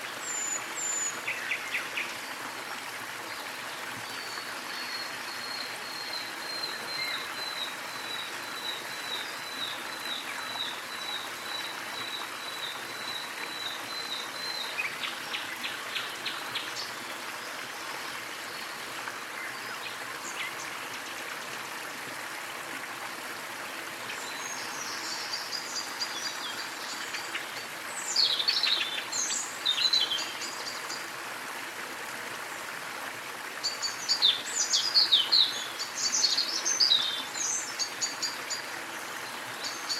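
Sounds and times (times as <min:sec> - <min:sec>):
small waterfall running: 0:00.0 - 0:39.9.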